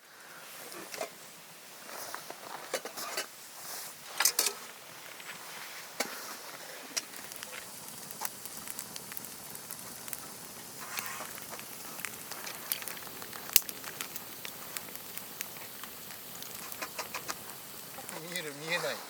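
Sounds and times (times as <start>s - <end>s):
wood fire crackling and popping: 0.2s - 19.0s.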